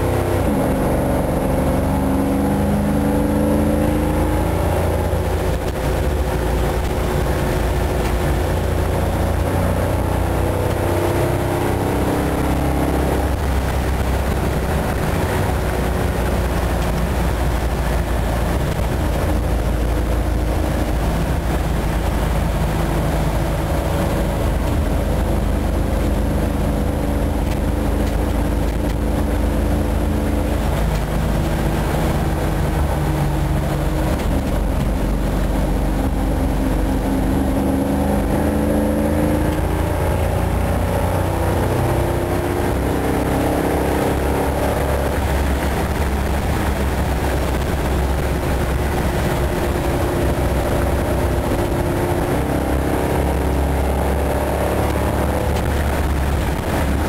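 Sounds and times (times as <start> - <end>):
road noise: 0.0 - 57.0
van engine rumbling: 0.0 - 57.0.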